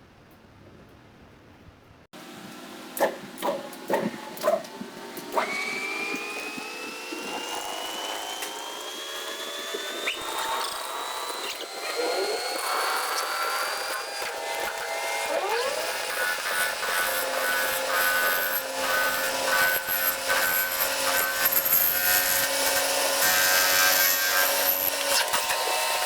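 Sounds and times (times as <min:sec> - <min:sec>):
power tool motor whining: 0:03.2 - 0:26.0.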